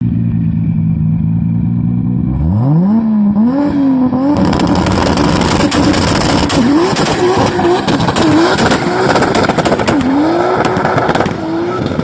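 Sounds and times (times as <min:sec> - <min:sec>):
car engine revving: 0:00.4 - 0:12.0.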